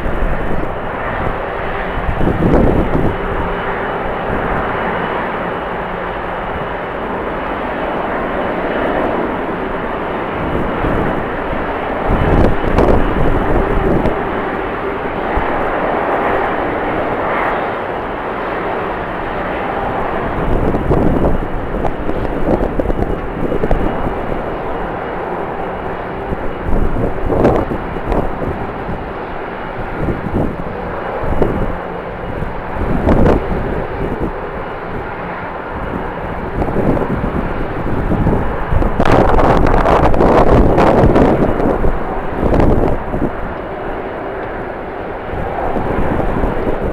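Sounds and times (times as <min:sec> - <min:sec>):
jet engine noise: 0:00.0 - 0:46.9
wind buffeting microphone: 0:00.0 - 0:46.9.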